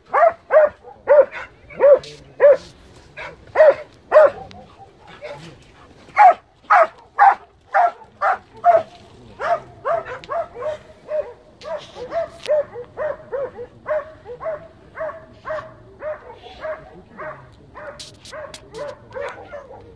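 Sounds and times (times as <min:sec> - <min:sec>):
hound barking: 0:00.0 - 0:19.9.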